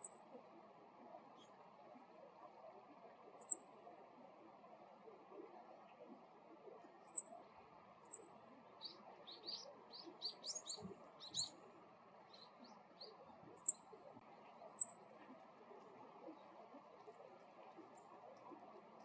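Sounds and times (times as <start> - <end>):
soft lower bird chirps: 0.0 - 0.4, 1.1 - 19.0.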